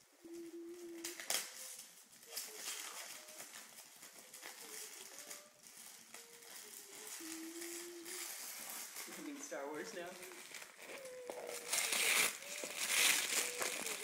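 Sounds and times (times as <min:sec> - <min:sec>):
faint thin steady tones: 0:00.0 - 0:14.0
paper rustling and crinkling: 0:00.2 - 0:14.0.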